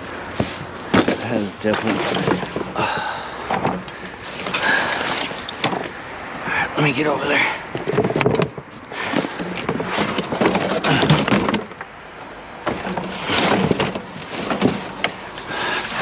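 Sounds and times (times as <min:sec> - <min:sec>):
debris crunching underfoot: 0:00.0 - 0:06.5, 0:07.6 - 0:12.0, 0:12.6 - 0:16.0.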